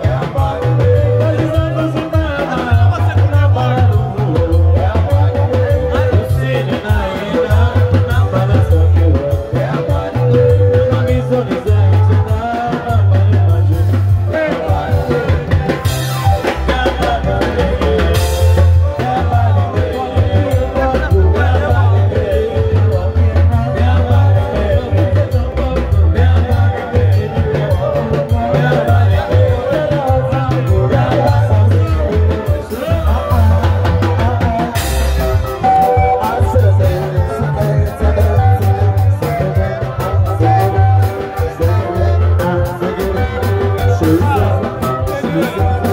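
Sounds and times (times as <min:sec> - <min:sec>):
live band music through speakers: 0:00.0 - 0:45.9
man singing into a microphone: 0:00.0 - 0:45.9.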